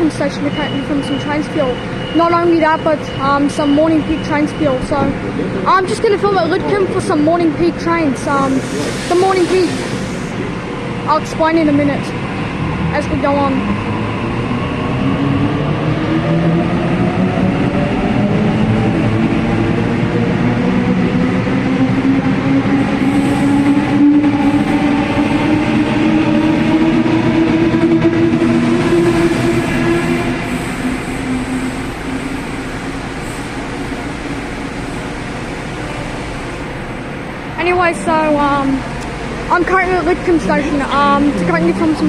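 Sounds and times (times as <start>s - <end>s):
rail noise: 0.0s - 42.0s.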